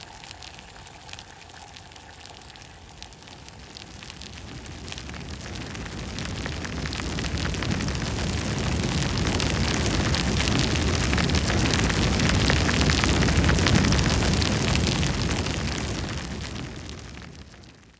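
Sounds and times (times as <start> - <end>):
crackling rumbling noise: 0.0 - 17.9.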